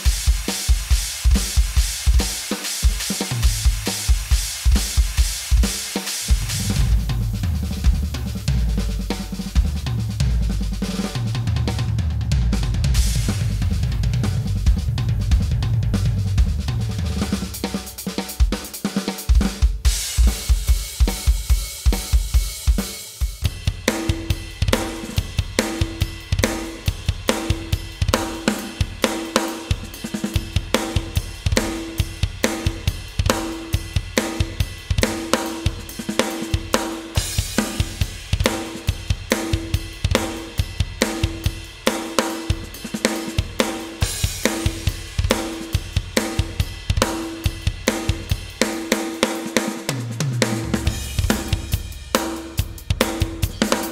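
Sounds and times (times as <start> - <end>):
electronic drum kit playing: 0.0 - 53.9.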